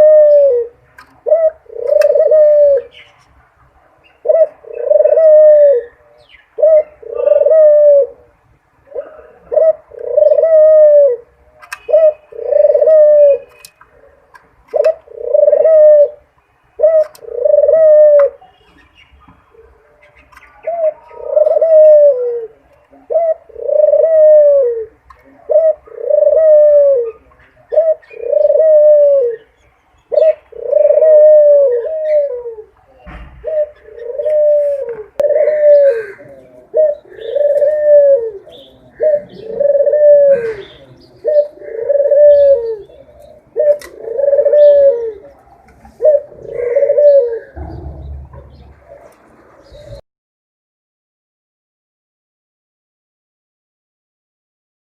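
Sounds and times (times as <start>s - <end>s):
dove cooing: 0.0s - 3.1s, 4.1s - 18.4s, 19.6s - 50.0s.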